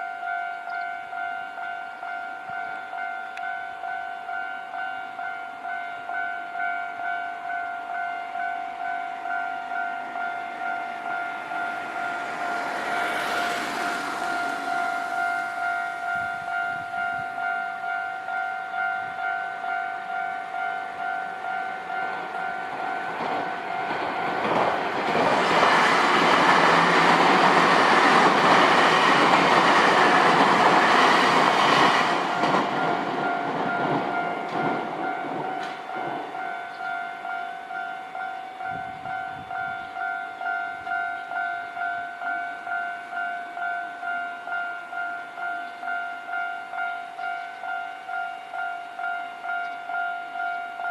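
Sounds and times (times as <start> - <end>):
electric train rumble and wheel noise: 0.0 - 50.9
level crossing warning bell: 0.0 - 50.9.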